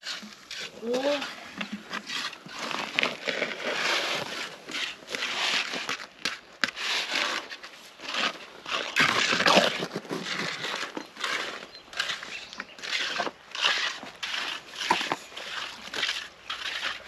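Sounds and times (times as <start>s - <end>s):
tool scraping gravel: 0.0s - 17.0s.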